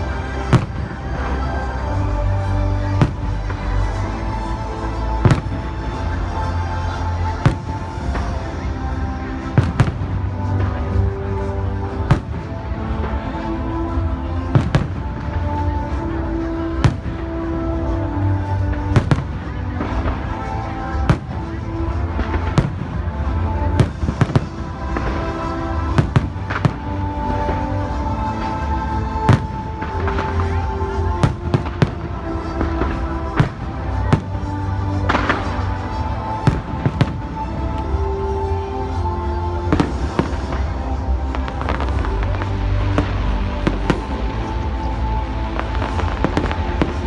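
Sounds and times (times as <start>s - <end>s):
background music: 0.0s - 47.0s
fireworks bangs: 0.2s - 1.9s, 2.8s - 39.0s, 39.6s - 47.0s.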